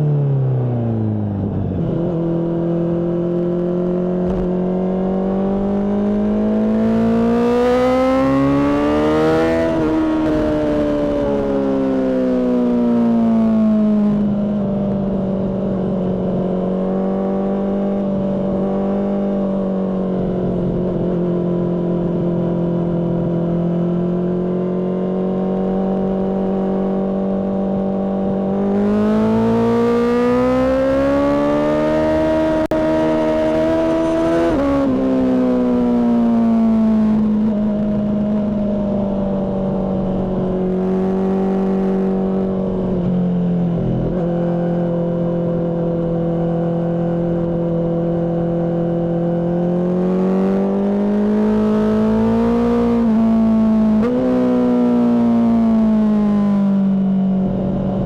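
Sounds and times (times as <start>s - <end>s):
motorcycle engine revving: 0.8s - 58.0s.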